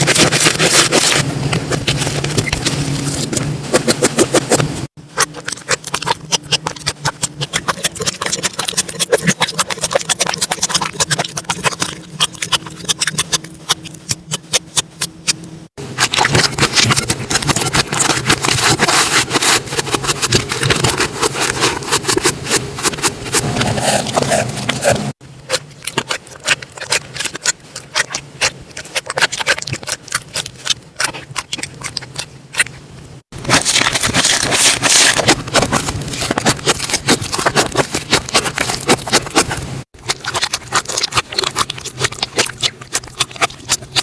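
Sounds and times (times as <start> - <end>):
slime squelching crackles: 0.0 - 44.0.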